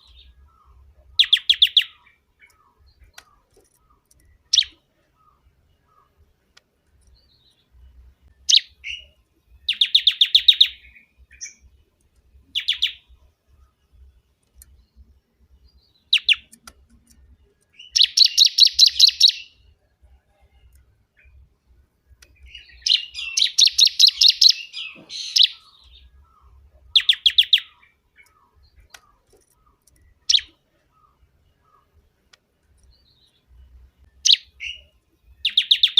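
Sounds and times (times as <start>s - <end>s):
bird singing high repeated notes: 0.0s - 6.5s, 7.1s - 11.8s, 12.4s - 20.6s, 22.0s - 32.2s, 32.8s - 35.9s.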